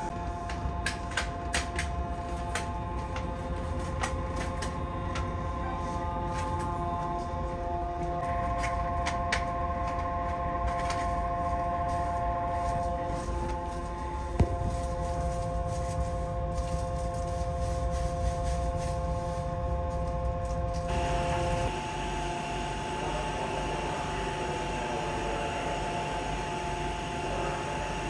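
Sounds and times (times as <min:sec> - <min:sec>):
traction motor whine: 0:00.0 - 0:28.0.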